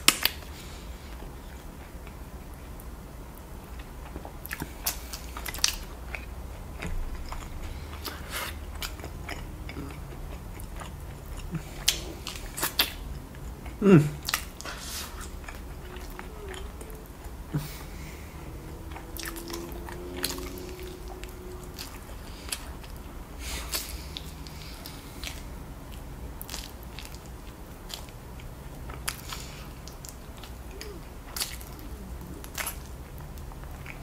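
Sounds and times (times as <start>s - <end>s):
wet chewing: 0.0s - 34.0s.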